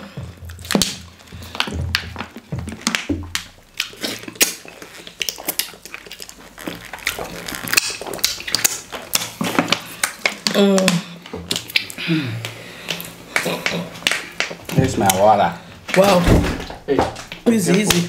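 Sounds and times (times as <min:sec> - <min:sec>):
meat being chewed and gnawed: 0:00.0 - 0:15.4
wet mouth clicks and smacks: 0:00.4 - 0:15.2.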